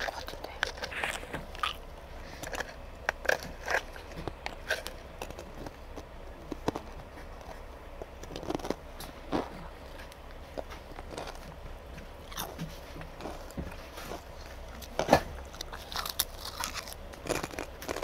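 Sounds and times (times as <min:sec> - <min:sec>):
potato crisps crunched and chewed: 0:00.0 - 0:11.6, 0:12.2 - 0:18.0
low steady hum: 0:00.0 - 0:18.0.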